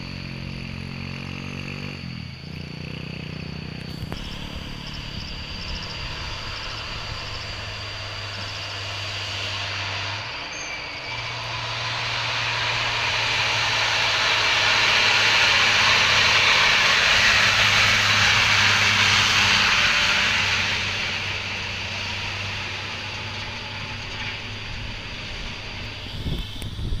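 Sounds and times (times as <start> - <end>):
truck engine drone: 0.0 - 27.0
truck brake hiss: 3.9 - 27.0.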